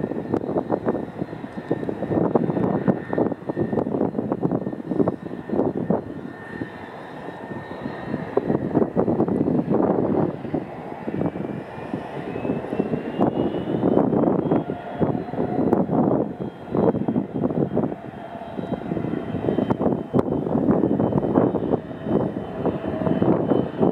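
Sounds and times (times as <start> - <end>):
distant helicopter rotor: 0.0 - 23.9
turbine whine: 0.0 - 23.9.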